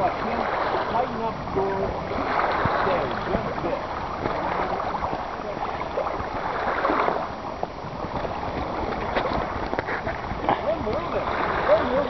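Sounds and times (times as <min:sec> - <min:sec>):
water lapping against canoe hull: 0:00.0 - 0:12.0
wind on microphone: 0:00.0 - 0:12.0
small splashes and knocks: 0:02.1 - 0:11.9.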